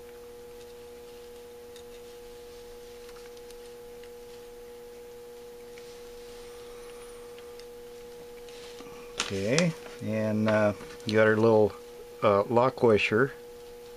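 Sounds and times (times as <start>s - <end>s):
steady hum: 0.0s - 13.9s.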